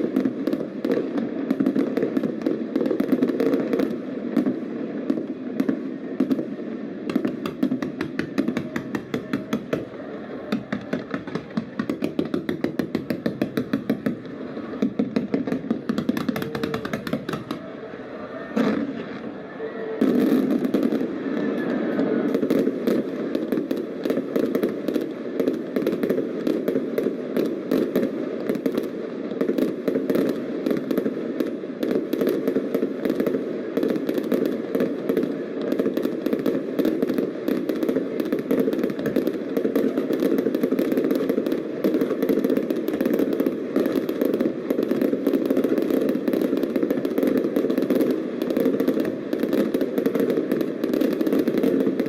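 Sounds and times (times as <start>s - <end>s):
fireworks crackling and popping: 0.0s - 52.0s.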